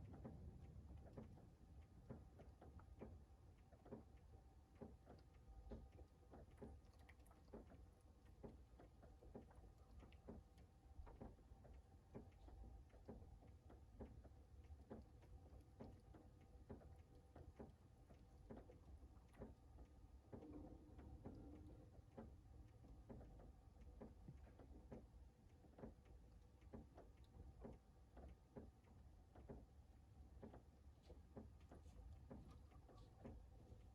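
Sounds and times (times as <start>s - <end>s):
low steady rumble: 0.0s - 33.9s.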